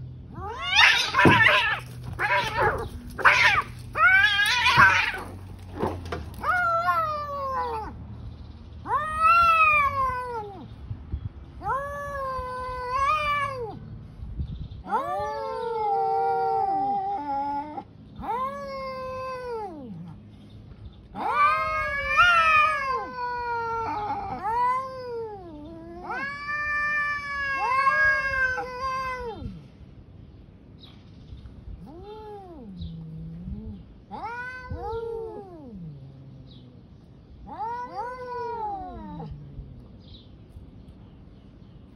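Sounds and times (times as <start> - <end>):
cats yowling: 0.3 - 8.0, 8.8 - 10.8, 11.6 - 13.8, 14.8 - 20.2, 21.0 - 29.7, 31.8 - 40.0.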